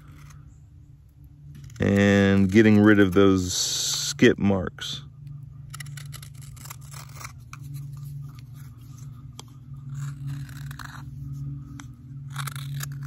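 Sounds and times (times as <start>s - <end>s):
knife scraping dry wood: 0.0s - 13.0s
steady low hum: 0.0s - 13.0s.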